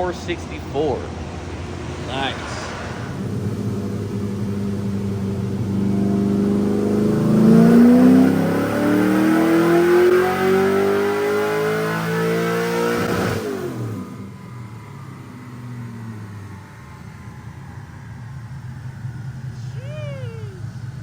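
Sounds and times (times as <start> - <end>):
engine revving on a dyno: 0.0 - 19.6.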